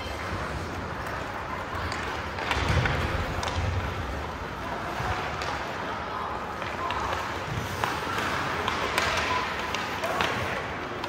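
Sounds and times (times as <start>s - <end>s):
skates on ice: 0.0s - 11.0s
hockey sticks and puck clacking: 0.2s - 11.0s.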